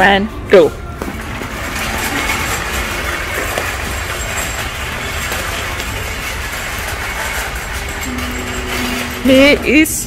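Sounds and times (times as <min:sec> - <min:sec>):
shopping cart rattling: 0:01.0 - 0:10.0.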